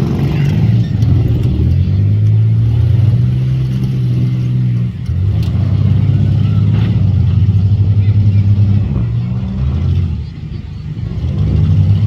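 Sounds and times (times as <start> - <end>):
car engines revving loudly: 0.0 - 12.0.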